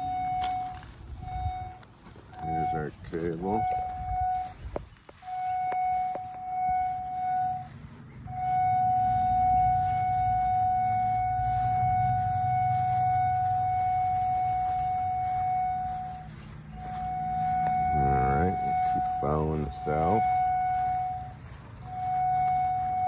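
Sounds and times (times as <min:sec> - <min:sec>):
steady high-pitched tone: 0:00.0 - 0:23.0.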